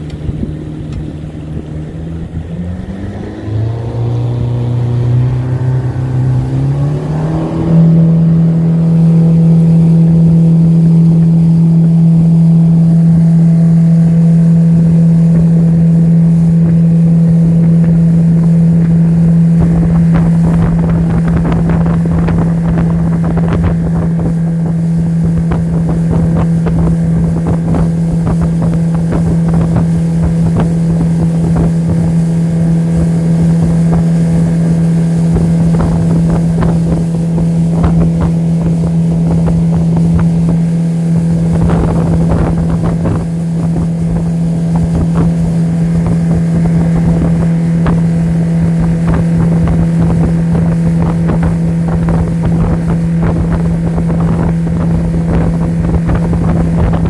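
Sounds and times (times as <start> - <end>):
boat motor humming: 0.0 - 57.0
water splashing: 0.0 - 57.0
wind buffeting microphone: 0.0 - 57.0.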